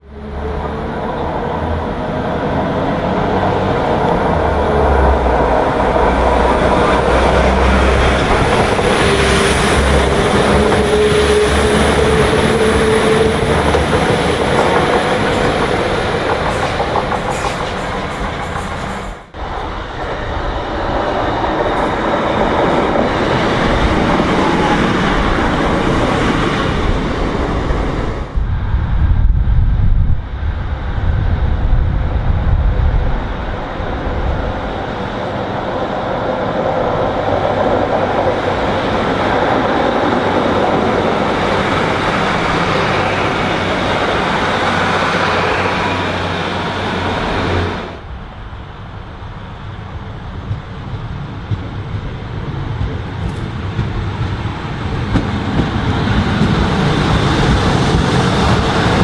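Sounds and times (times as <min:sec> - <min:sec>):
train passing with rail noise: 0:00.0 - 0:59.0.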